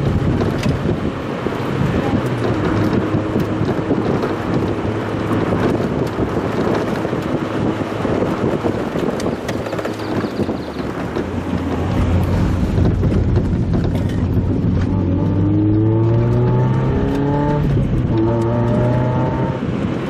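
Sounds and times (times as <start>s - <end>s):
faint car engine: 0.0s - 20.0s
wind and road noise: 0.0s - 20.0s.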